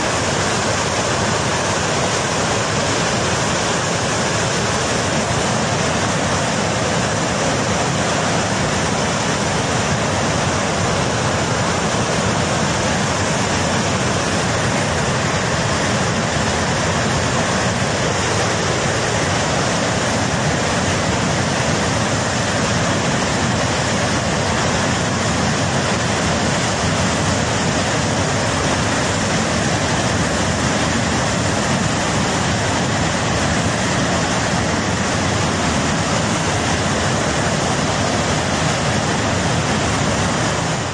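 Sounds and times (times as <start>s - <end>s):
torrent of rushing water: 0.0s - 40.9s.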